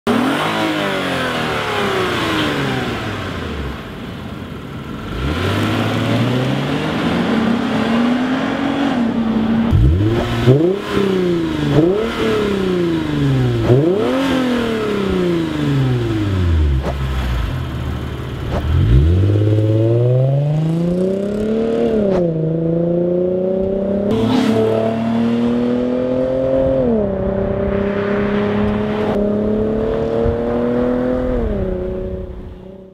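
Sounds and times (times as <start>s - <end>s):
car engine revving: 0.1s - 4.0s, 4.7s - 32.9s
car accelerating through gears: 5.0s - 17.4s, 18.4s - 32.9s.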